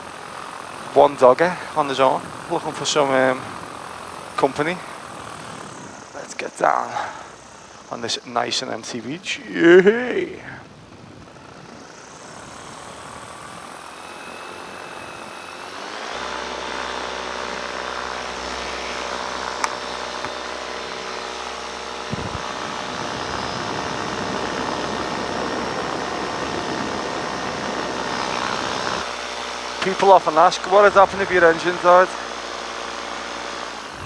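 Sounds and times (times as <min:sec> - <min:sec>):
paramotor engine and propeller: 0:00.0 - 0:34.0.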